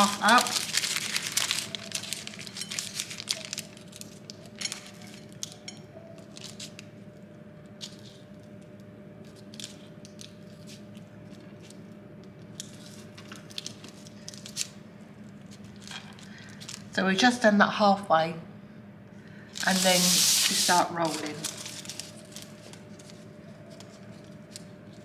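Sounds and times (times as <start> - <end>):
baking paper crinkling: 0.0 - 7.0, 7.6 - 8.6, 9.2 - 17.0, 19.6 - 25.0
squishy pastry handling: 0.0 - 17.0, 19.6 - 25.0
faint steady hum: 0.0 - 25.0.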